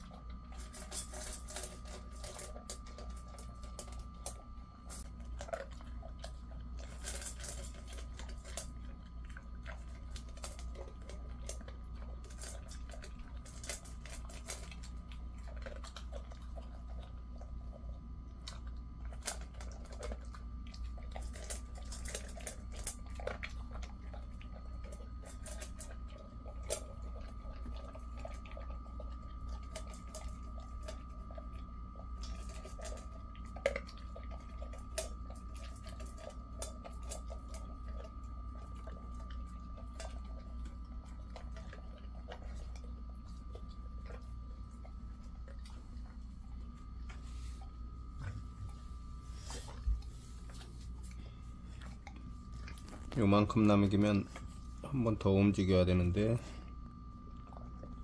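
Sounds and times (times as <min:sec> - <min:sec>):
dog crunching food: 0:00.0 - 0:58.0
faint hum: 0:00.0 - 0:58.0.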